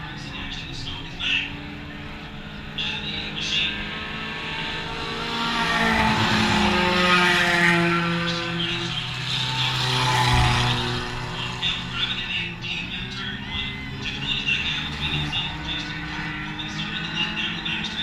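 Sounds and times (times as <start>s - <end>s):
race cars passing at speed: 0.0s - 18.0s.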